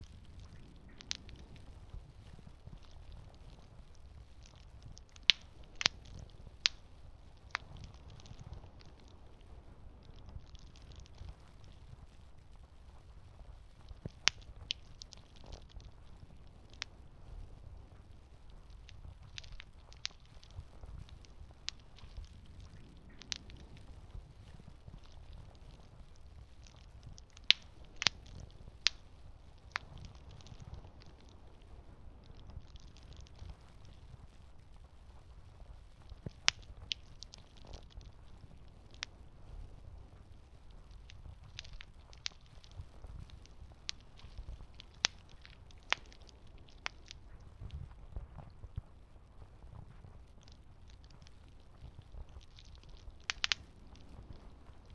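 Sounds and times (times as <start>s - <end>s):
campfire crackling and popping: 0.0s - 54.9s
low steady rumble: 0.0s - 54.9s.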